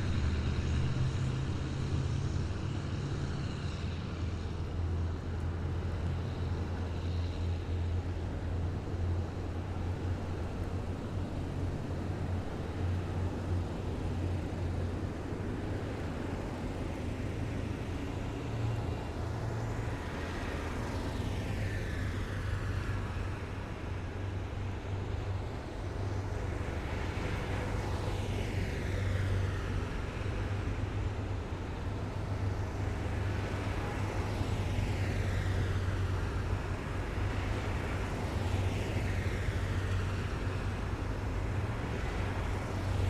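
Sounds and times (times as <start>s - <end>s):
military vehicles engine drone: 0.0s - 43.0s.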